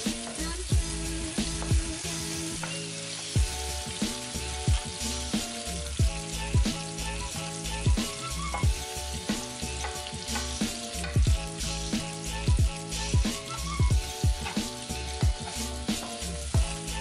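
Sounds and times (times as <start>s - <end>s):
background music with drums: 0.0s - 17.0s
vegetables sizzling in hot oil: 0.0s - 17.0s.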